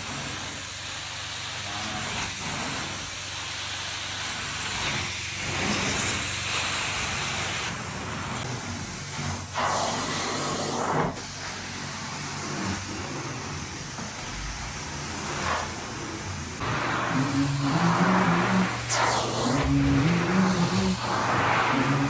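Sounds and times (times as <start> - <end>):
carpet cleaner hissing: 0.0 - 22.0.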